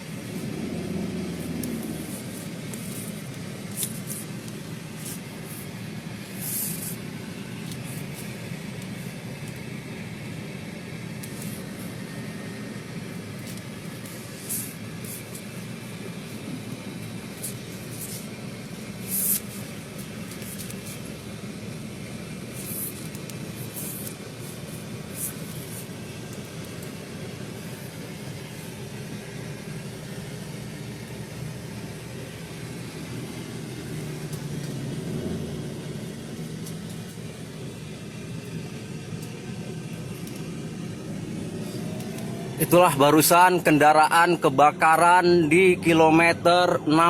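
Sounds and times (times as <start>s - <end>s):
vehicle and road rumble: 0.0s - 47.0s.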